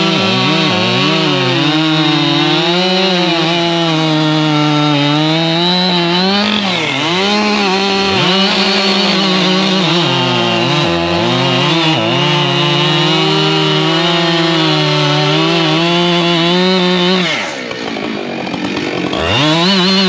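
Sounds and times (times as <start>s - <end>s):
chainsaw cutting a log: 0.0s - 20.0s.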